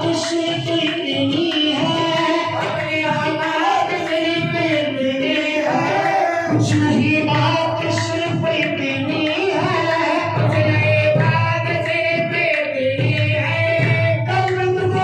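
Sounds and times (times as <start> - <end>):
tabla: 0.0 - 15.0
voices singing devotional melody: 0.0 - 15.0.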